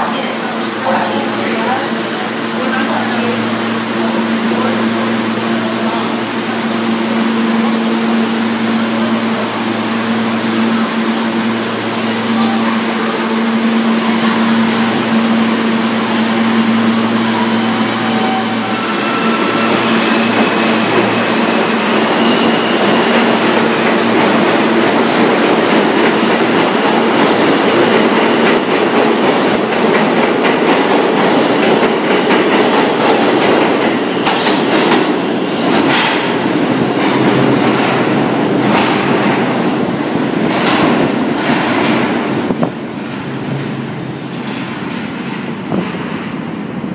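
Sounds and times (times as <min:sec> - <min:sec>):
train propulsion whine: 0:00.0 - 0:40.4
train rumble: 0:00.0 - 0:46.9.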